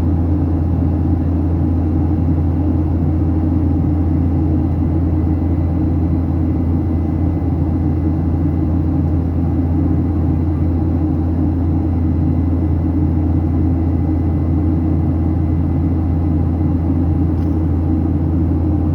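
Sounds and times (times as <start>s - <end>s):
aircraft cabin engine drone: 0.0s - 18.9s.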